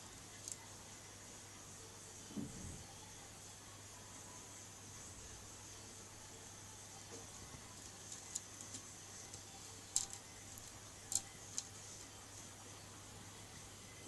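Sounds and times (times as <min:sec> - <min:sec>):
aquarium hum and hiss: 0:00.0 - 0:14.0.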